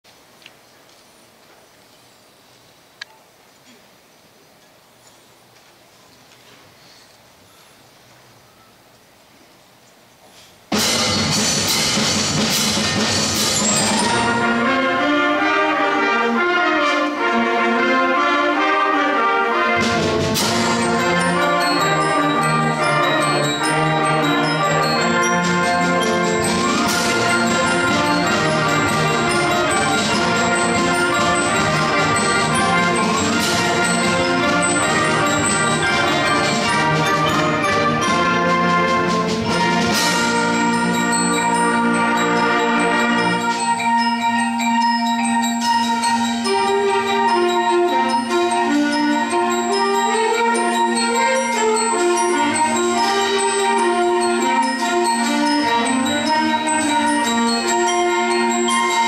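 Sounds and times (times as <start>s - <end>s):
concert band playing: 10.7s - 59.0s.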